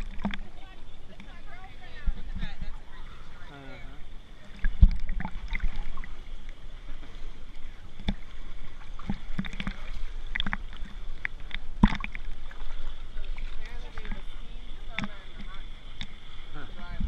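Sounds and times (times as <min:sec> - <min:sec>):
pool water lapping and sloshing: 0:00.0 - 0:17.0
small water splashes: 0:00.0 - 0:17.0.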